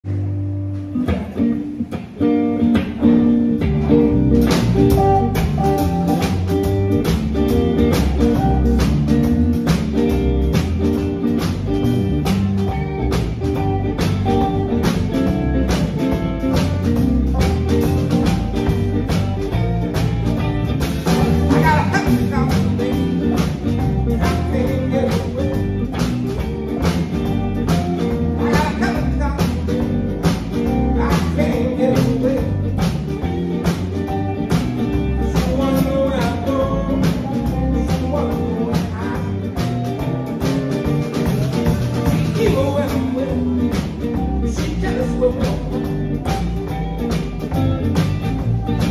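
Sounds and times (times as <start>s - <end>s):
live rock band playing: 0.0s - 48.9s
drum kit beat: 0.1s - 48.9s.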